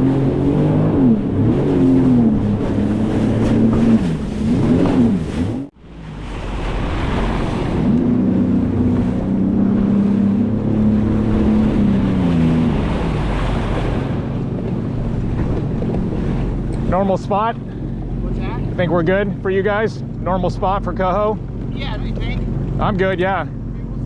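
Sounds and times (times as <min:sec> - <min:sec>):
wind buffeting microphone: 0:00.0 - 0:05.7, 0:06.3 - 0:22.8
water rushing past: 0:00.0 - 0:23.6
jet ski engine running: 0:00.0 - 0:24.0.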